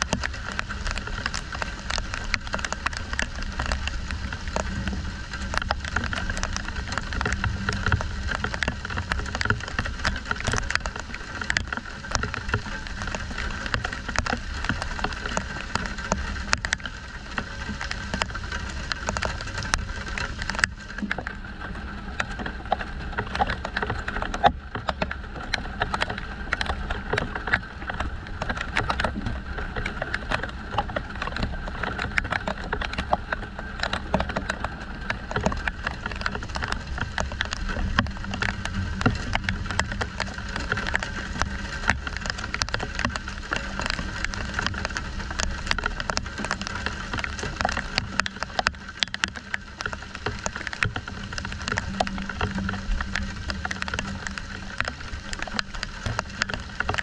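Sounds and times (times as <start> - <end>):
raindrops clicking on surfaces: 0.0 - 57.0
steady rain: 0.0 - 57.0.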